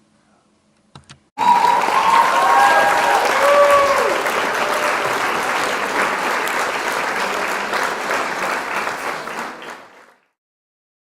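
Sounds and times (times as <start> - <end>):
audience applause: 1.4 - 10.4.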